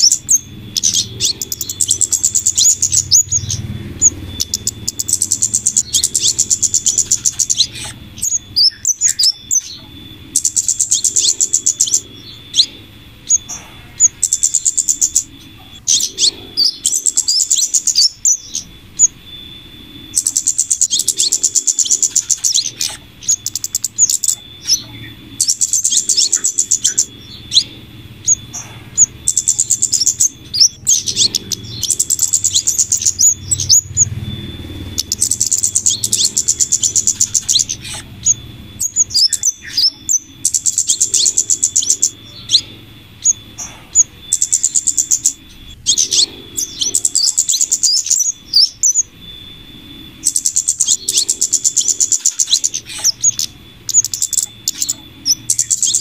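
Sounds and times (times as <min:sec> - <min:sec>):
faint steady hum: 0:00.0 - 0:56.0
rapid high-pitched bird ticking: 0:00.0 - 0:56.0.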